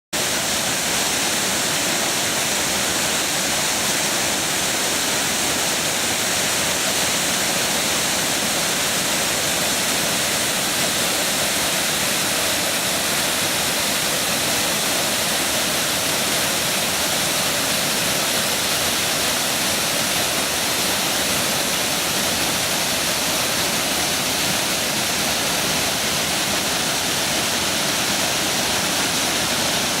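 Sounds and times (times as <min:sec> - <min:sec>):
waterfall rushing: 0:00.2 - 0:30.0.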